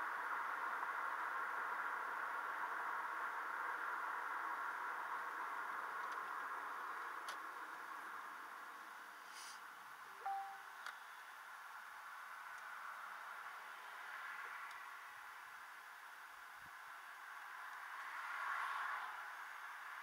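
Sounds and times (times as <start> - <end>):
road and tyre hiss inside car: 0.0 - 20.0.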